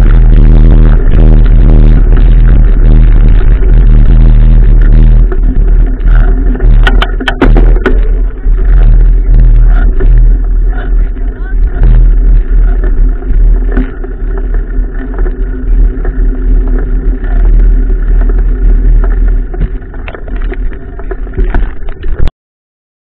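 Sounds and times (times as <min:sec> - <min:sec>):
wind buffeting microphone: 0:00.0 - 0:22.3.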